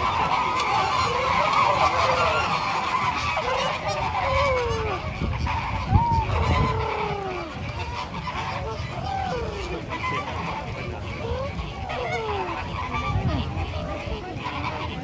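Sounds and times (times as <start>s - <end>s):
flamingos honking: 0.0s - 15.0s.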